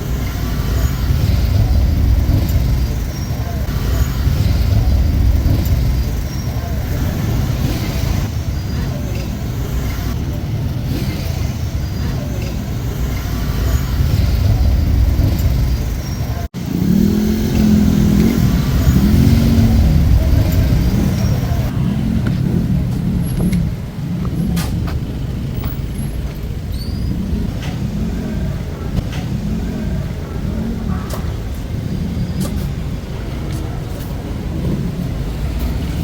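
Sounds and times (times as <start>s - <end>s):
engine pitch rising and falling: 0.0s - 36.0s
vehicle engines rumbling: 0.0s - 36.0s.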